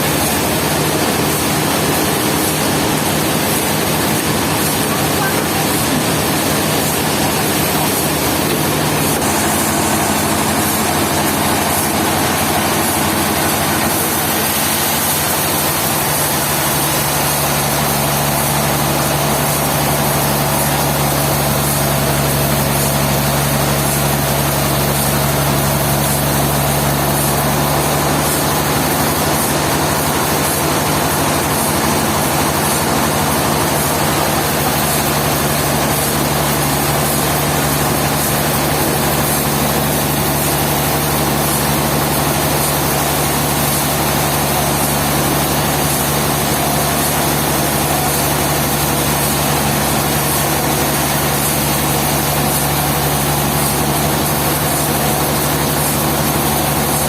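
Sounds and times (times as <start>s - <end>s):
machine engine humming with hiss: 0.0s - 57.0s.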